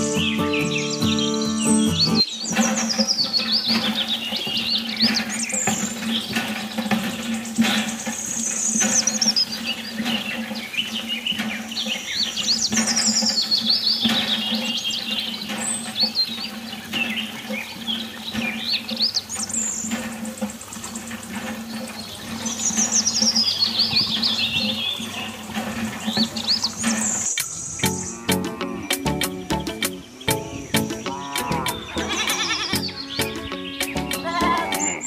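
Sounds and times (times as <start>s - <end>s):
songbird chirping: 0.0s - 35.0s.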